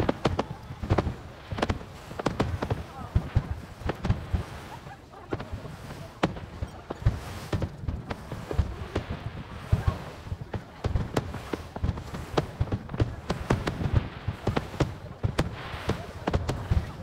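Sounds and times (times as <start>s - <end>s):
firework shells bursting: 0.0s - 5.6s, 6.2s - 17.0s.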